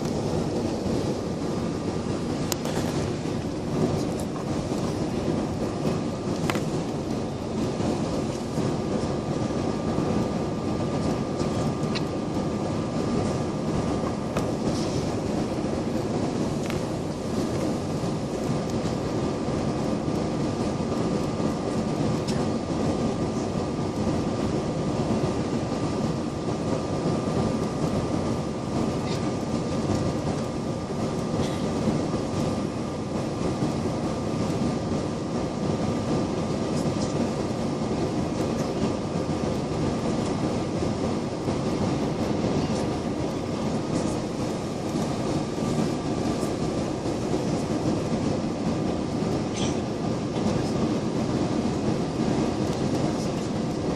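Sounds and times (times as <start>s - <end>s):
aircraft engines droning: 0.0s - 53.9s
steady whining tones: 0.0s - 53.9s.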